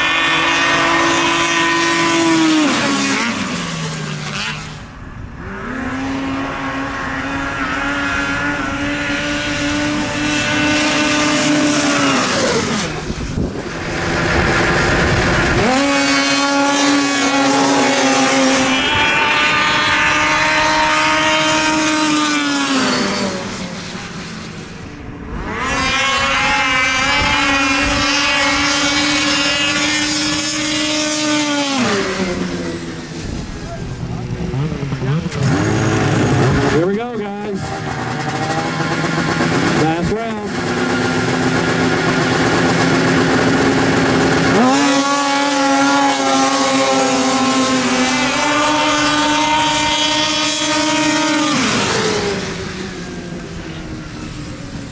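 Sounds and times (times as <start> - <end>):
snowmobile engines whining: 0.0 - 54.9.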